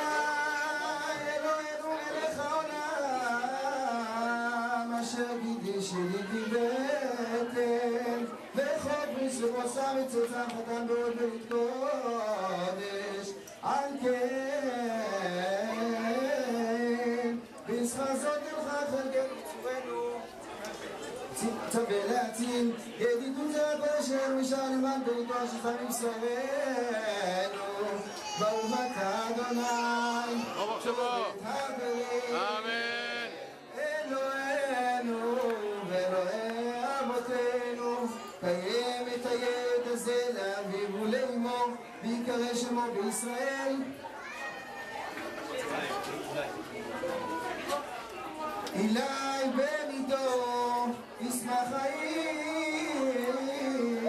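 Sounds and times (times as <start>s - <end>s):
man chanting into a microphone: 0.0s - 20.2s, 21.4s - 43.9s, 48.8s - 54.0s.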